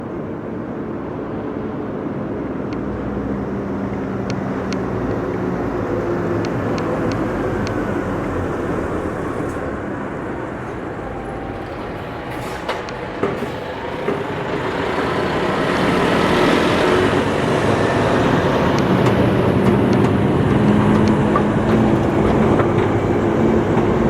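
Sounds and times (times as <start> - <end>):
traffic noise: 0.0 - 24.0
heavy vehicle engine passing: 1.5 - 24.0.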